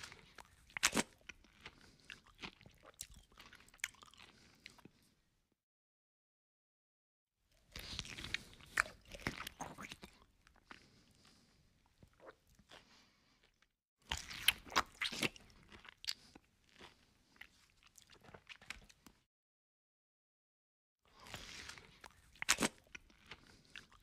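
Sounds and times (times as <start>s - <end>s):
chewing and crunching: 0.0s - 5.1s, 7.6s - 19.2s, 21.1s - 24.0s.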